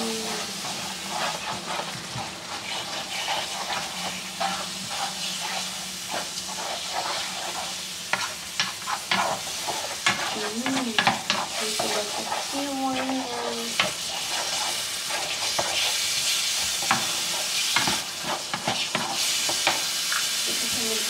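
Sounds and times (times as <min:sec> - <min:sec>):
meat sauce sizzling in a pan: 0:00.0 - 0:21.0
tongs scraping a pan: 0:00.0 - 0:21.0.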